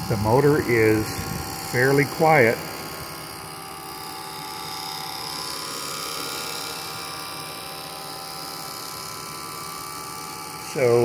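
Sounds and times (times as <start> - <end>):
engine cooling fan rushing: 0.0 - 11.0
small electric motor whirring: 0.0 - 11.0.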